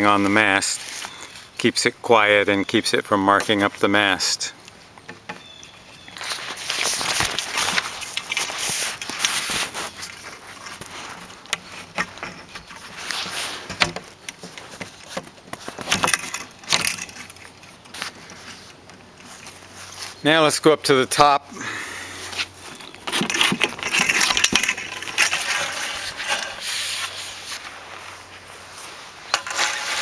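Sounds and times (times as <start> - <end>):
rustling and crackling: 0.0 - 30.0.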